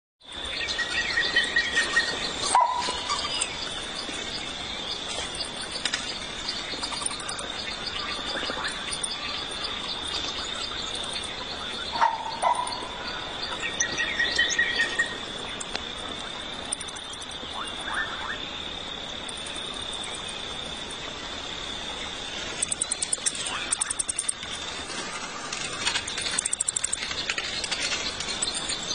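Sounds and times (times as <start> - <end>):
insects droning: 0.2 - 28.9
bird calls: 0.3 - 28.9.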